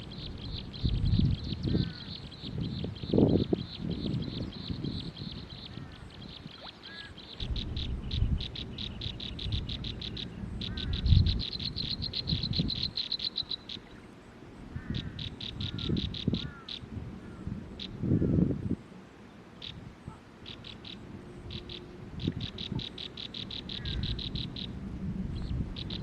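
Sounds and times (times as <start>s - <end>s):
low uneven rumble: 0.0s - 12.8s, 16.4s - 26.0s.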